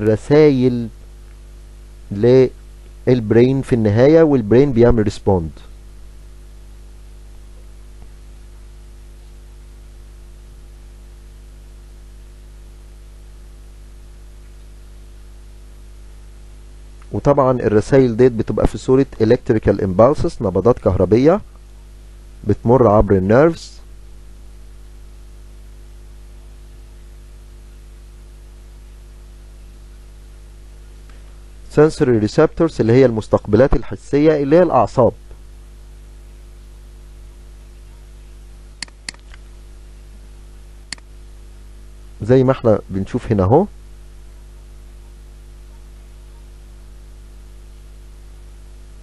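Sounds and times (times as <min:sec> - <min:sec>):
electrical hum with hiss: 0:00.0 - 0:49.0.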